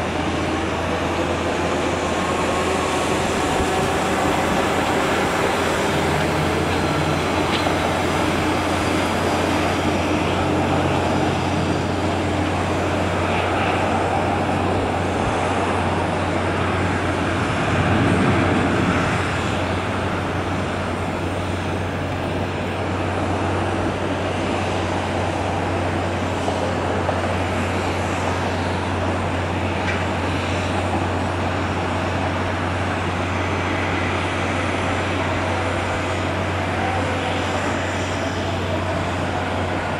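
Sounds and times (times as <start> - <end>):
jet aircraft roar: 0.0 - 39.9.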